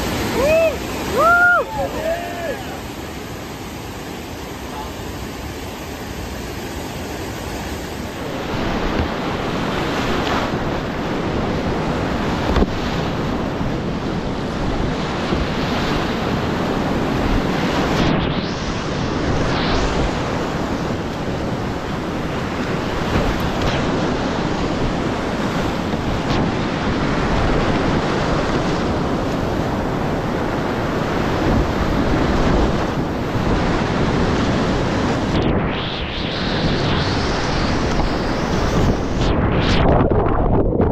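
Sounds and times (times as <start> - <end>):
whitewater rushing: 0.0 - 39.2
wind buffeting microphone: 5.6 - 40.9.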